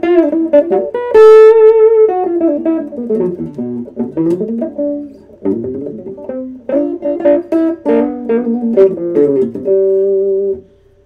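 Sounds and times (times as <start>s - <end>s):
electric guitar notes and chords: 0.0s - 10.7s.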